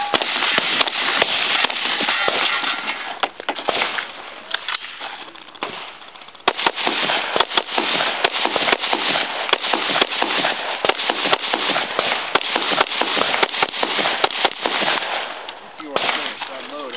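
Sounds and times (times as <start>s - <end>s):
shotgun shots: 0.0s - 16.7s.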